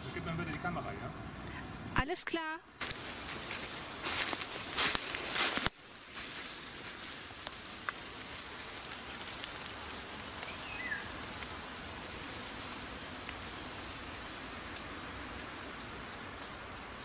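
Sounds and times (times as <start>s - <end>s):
rain falling on leaves: 2.8s - 17.0s.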